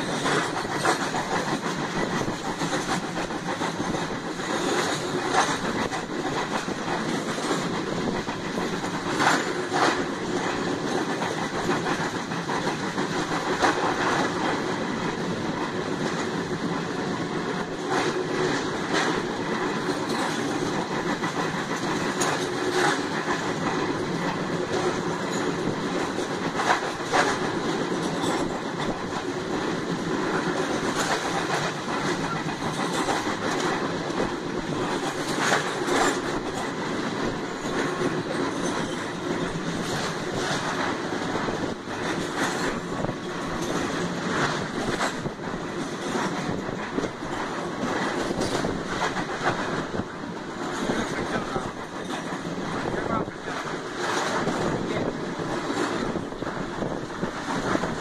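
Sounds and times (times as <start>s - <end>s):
rail joint clacks: 0.0s - 58.0s
train wheels rumbling on rail: 0.0s - 58.0s.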